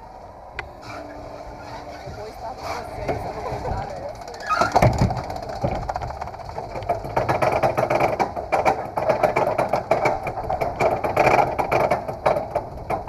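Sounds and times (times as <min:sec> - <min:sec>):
roller coaster rattling on track: 0:00.0 - 0:13.0.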